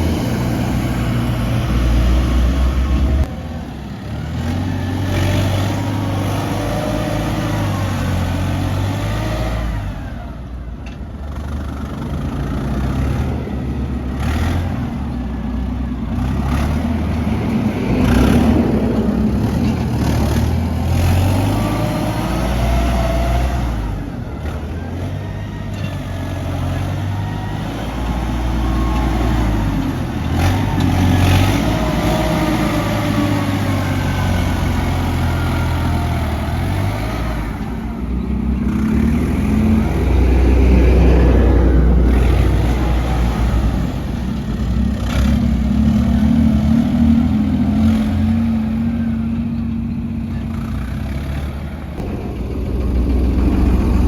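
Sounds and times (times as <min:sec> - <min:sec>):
heavy diesel engines revving: 0:00.0 - 0:54.0.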